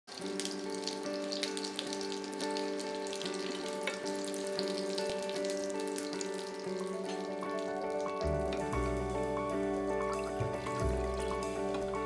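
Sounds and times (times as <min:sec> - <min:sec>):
background music of held notes: 0:00.1 - 0:12.0
turnips sizzling in a frying pan: 0:00.1 - 0:12.0.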